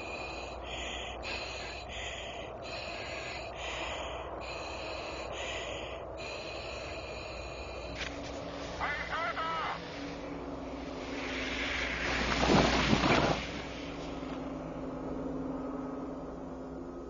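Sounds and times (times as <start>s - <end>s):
breathing through oxygen mask: 0.0s - 13.7s.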